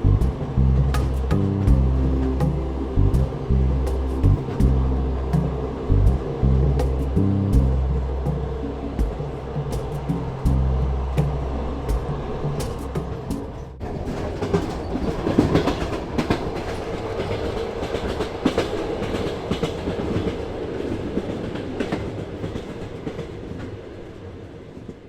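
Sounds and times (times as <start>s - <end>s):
train rumble: 0.0s - 25.0s
train wheels clicking on rails: 0.0s - 25.0s.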